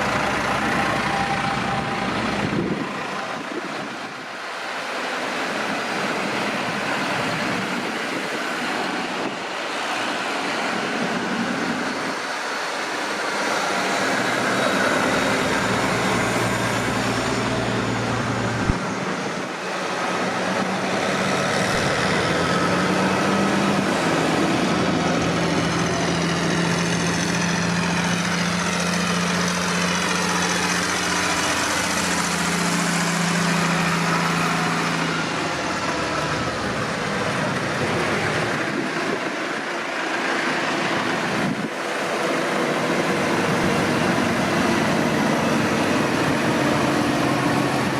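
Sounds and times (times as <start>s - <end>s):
tractors driving past: 0.0s - 47.9s.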